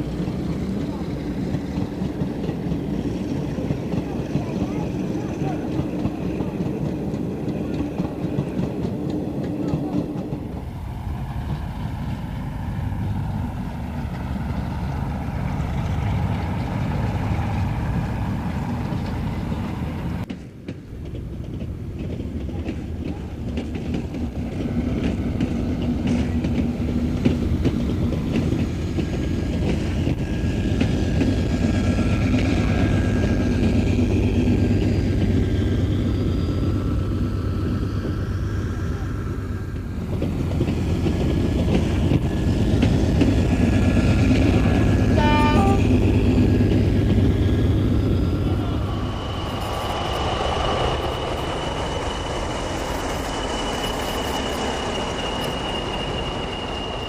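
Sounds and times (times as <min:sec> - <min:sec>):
diesel train running past: 0:00.0 - 0:57.0.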